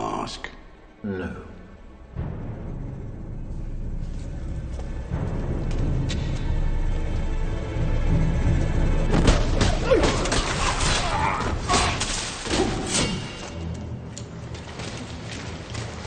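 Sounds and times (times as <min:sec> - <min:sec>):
tense film score music: 0:00.0 - 0:16.0.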